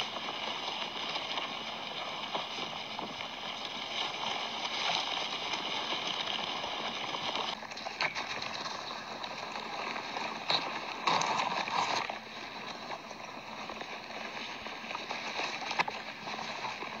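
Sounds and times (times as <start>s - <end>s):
birds scuffling in dry grass: 0.0s - 17.0s.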